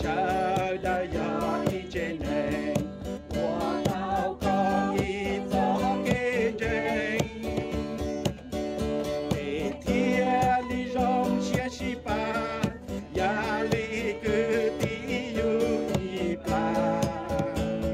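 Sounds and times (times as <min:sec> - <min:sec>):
person singing with vibrato: 0:00.0 - 0:17.9
strummed acoustic guitar: 0:00.0 - 0:17.9.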